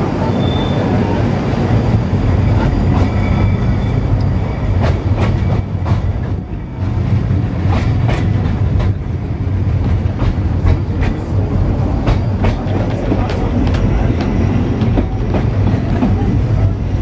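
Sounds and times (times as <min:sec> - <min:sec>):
tramcar rumbling on rails: 0:00.0 - 0:17.0
wheels clacking on track: 0:01.8 - 0:17.0.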